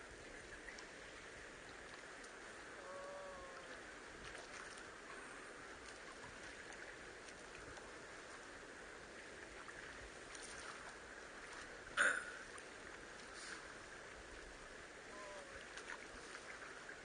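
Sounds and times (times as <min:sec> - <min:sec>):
water around small boat: 0:00.0 - 0:17.0.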